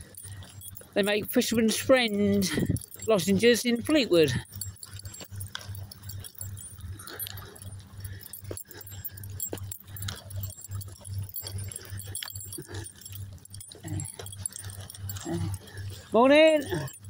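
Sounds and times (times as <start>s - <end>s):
low pulsing throb: 0.0s - 17.0s.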